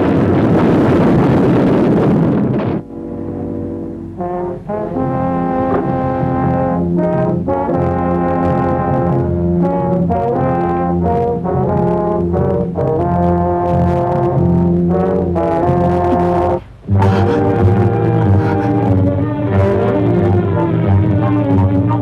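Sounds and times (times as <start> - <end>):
orchestral brass chords: 2.8 - 22.0.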